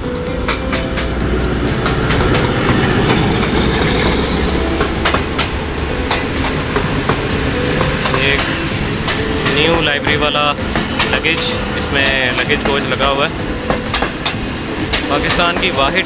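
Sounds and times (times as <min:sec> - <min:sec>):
locomotive engine rumbling: 0:00.0 - 0:16.0
train wheels clacking on rail joints: 0:00.0 - 0:16.0.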